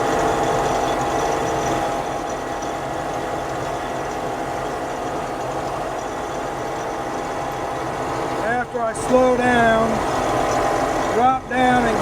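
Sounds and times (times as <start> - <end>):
combine harvester droning: 0.0 - 12.0
steady hum: 0.0 - 12.0.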